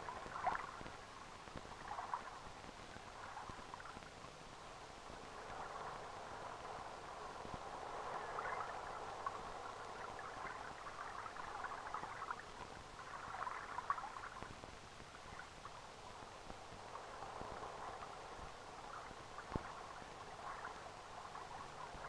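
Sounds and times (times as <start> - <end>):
old film soundtrack hiss: 0.0 - 22.0.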